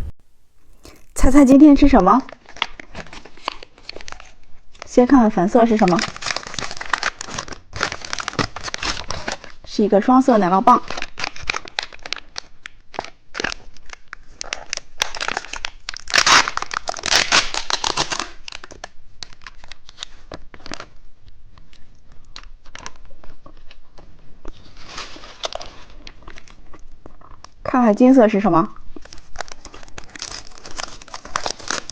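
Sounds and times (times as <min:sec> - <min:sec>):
plastic wrapper crinkling and tearing: 0:00.0 - 0:27.6, 0:28.8 - 0:31.9.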